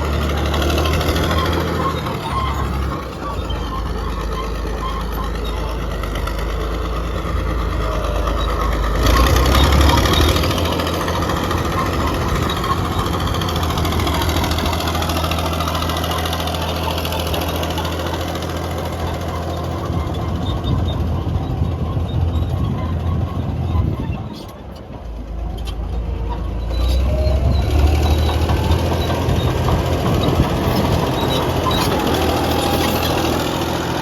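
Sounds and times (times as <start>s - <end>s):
bulldozer diesel engine revving: 0.0s - 34.0s.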